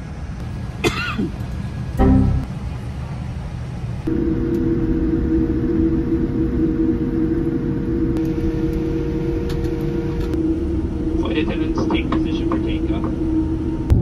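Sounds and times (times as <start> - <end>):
jet engine and air system drone: 0.0 - 14.0
low cabin rumble: 0.0 - 14.0.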